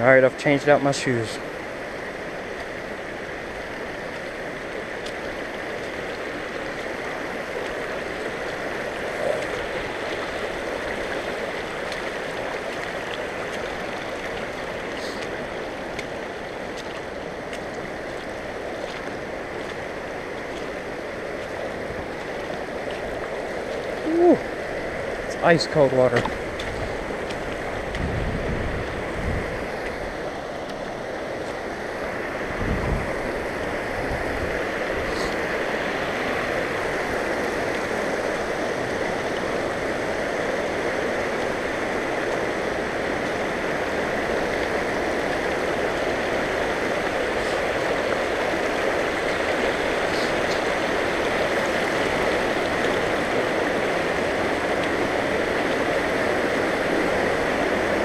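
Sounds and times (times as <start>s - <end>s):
creek rushing over rocks: 0.0s - 58.0s.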